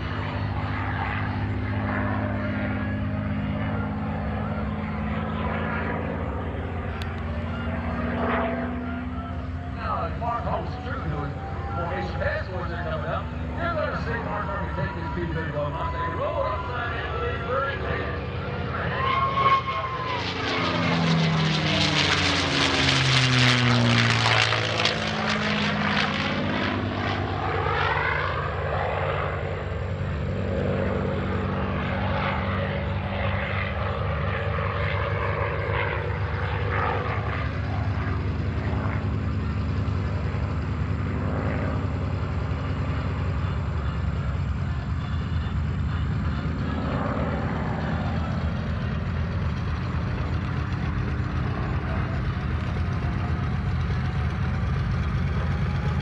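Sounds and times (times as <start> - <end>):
propeller plane engine passing: 0.0 - 56.0.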